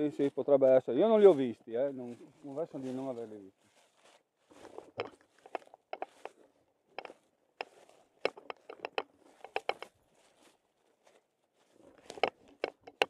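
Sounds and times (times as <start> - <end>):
footsteps crunching dry leaves: 0.0 - 12.9.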